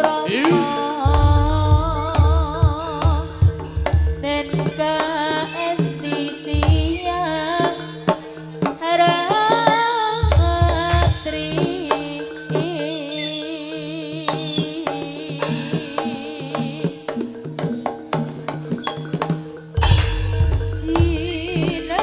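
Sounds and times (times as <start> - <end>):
hand-drum strokes: 0.0 - 22.0
high wavering melody: 0.0 - 22.0.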